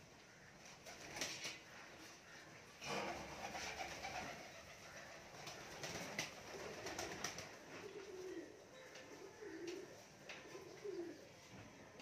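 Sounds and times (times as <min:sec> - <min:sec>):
pigeons cooing: 0:00.0 - 0:11.4.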